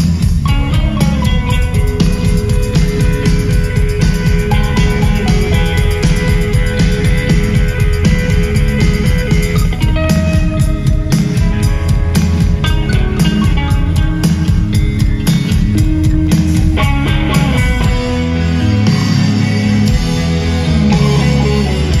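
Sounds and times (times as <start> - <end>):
bass: 0.0 - 22.0
drum kit beat: 0.0 - 22.0
electric guitars ringing: 0.0 - 22.0.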